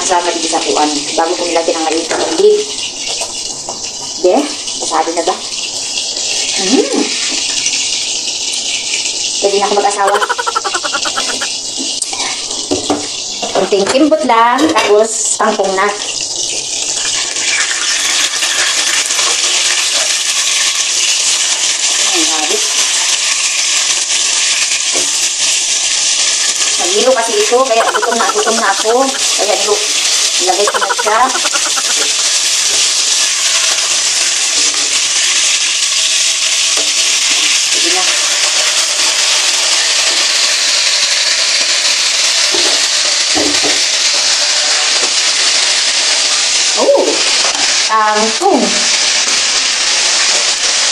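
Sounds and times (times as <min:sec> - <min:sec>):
fish sizzling in hot oil: 0:00.0 - 0:50.9.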